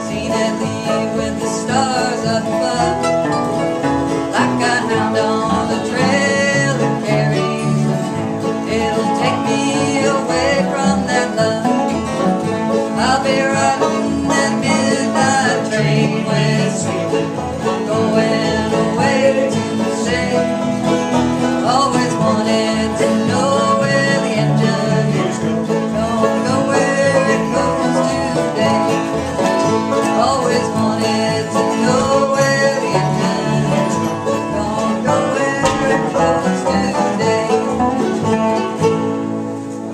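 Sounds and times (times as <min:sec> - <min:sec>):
banjo: 0:00.0 - 0:39.9
guitar: 0:00.0 - 0:39.9.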